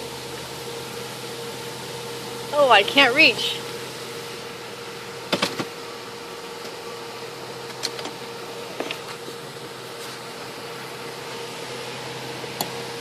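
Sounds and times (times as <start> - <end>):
car engine idling: 0.0 - 13.0
faint constant tone: 0.0 - 13.0.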